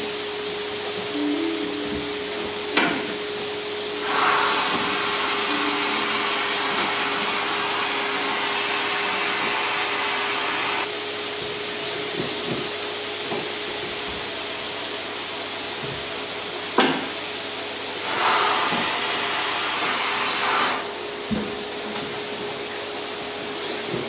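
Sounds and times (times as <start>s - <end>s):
vacuum motor rushing hiss: 0.0s - 24.0s.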